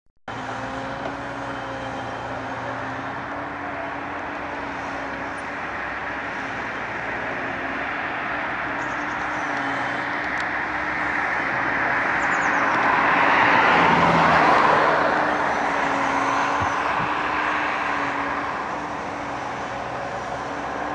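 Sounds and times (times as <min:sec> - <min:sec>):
diesel engine humming: 0:00.3 - 0:20.9
broad rushing noise: 0:02.4 - 0:20.9.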